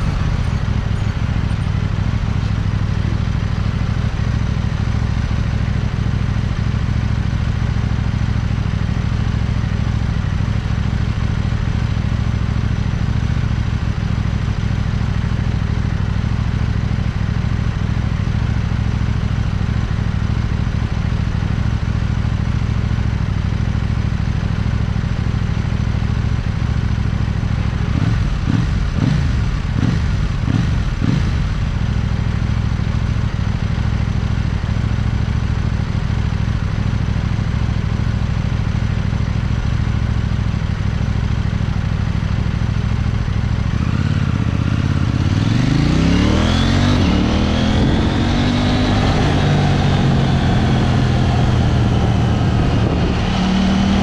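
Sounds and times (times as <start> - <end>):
motorcycle engine idling: 0.0 - 46.0.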